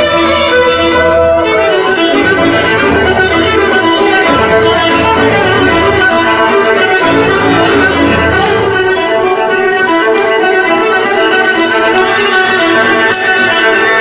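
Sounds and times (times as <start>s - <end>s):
folk dance music with fiddle: 0.0s - 14.0s.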